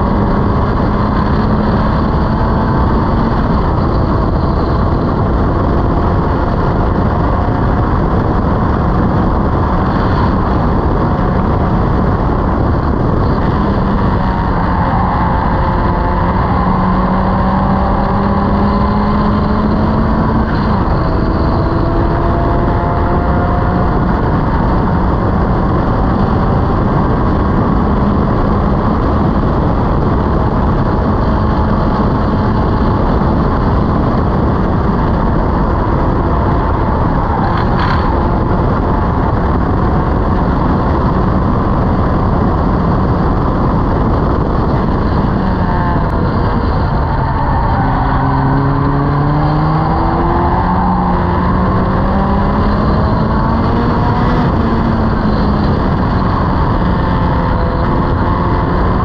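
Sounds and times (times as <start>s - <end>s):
race car engine revving: 0.0s - 59.0s
wind rushing: 0.0s - 59.0s.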